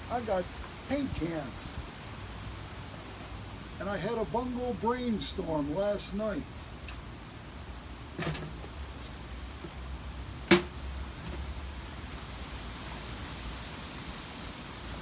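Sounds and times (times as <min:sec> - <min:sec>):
low steady hum: 0:00.0 - 0:13.7.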